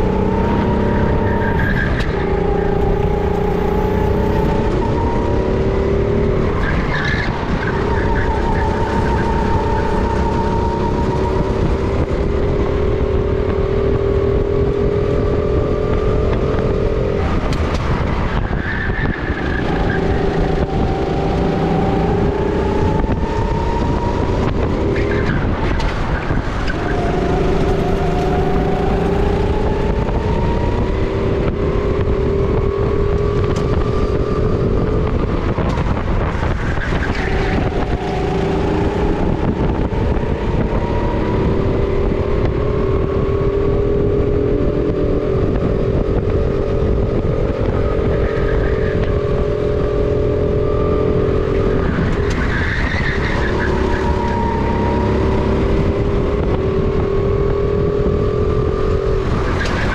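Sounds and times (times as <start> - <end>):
kart engine at race pace: 0.0 - 59.9.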